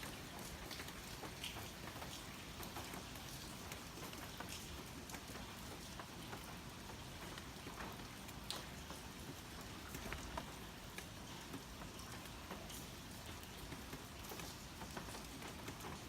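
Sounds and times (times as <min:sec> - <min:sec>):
raindrops tapping a surface: 0:00.0 - 0:16.0
steady hiss of rain: 0:00.0 - 0:16.0
wind: 0:00.0 - 0:16.0.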